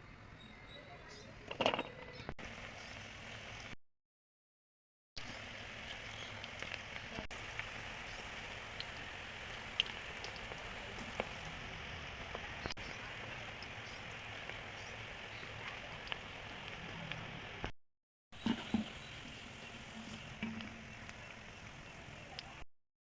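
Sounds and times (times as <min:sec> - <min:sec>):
oil popping and crackling: 0:01.5 - 0:03.8, 0:05.2 - 0:17.7, 0:18.4 - 0:22.6
food deep-frying in oil: 0:01.6 - 0:03.8, 0:05.2 - 0:17.7, 0:18.4 - 0:22.6.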